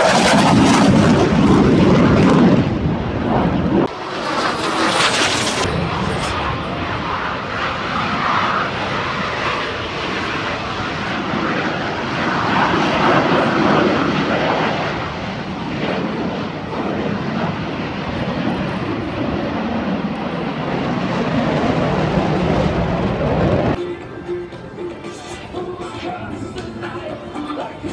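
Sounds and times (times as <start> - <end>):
jets flying low overhead: 0.0 - 27.9.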